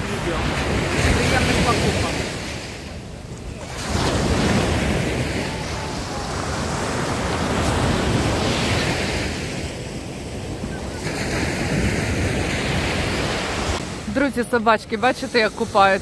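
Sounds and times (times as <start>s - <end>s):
surf washing onto beach: 0.0s - 16.0s.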